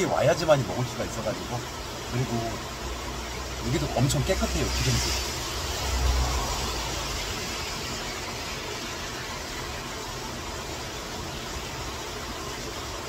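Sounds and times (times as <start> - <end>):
heavy rain hissing: 0.0 - 13.0
stream rushing: 0.0 - 13.0.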